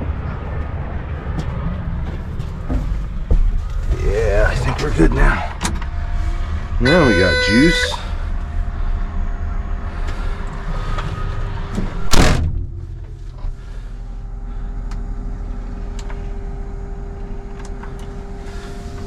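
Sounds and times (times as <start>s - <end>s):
low engine rumble: 0.0s - 19.0s
steady hum: 0.0s - 19.0s.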